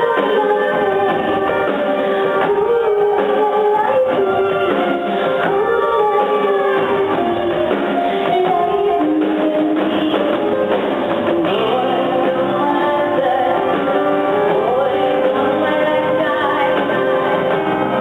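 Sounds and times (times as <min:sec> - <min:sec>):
live rock band: 0:00.0 - 0:18.0
woman singing: 0:00.0 - 0:18.0.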